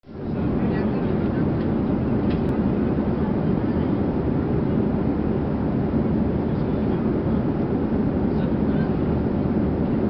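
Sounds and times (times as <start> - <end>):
airliner cabin rumble: 0.0 - 10.0
faint passenger voices: 0.1 - 10.0.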